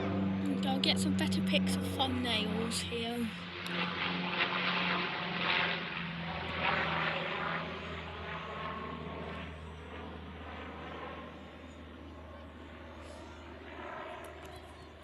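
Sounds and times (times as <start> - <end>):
turboprop airliner flying by: 0.0 - 15.0.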